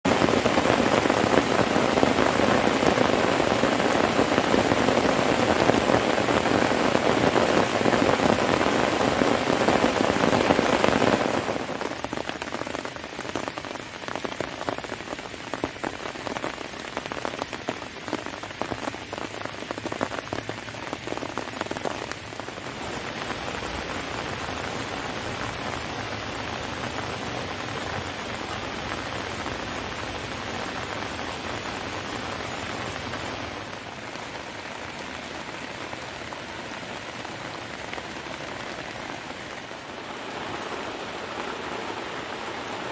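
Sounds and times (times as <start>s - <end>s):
heavy rain falling: 0.0s - 42.9s
raindrops pattering: 0.0s - 42.9s.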